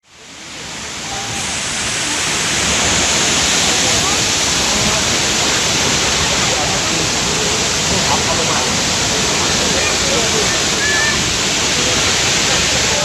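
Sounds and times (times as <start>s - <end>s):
waterfall rushing: 0.0s - 13.0s
faint voices: 0.1s - 13.0s.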